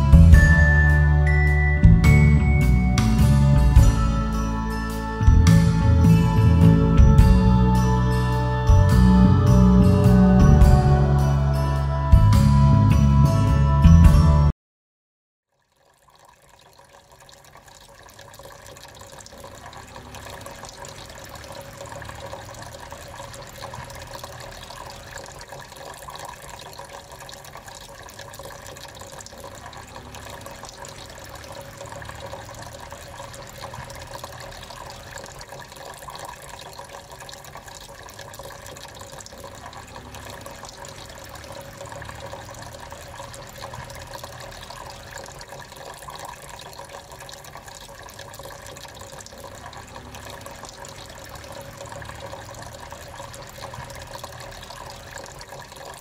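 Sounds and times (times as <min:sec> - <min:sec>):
water trickling in fountain: 0:00.0 - 0:13.6, 0:15.4 - 0:56.0.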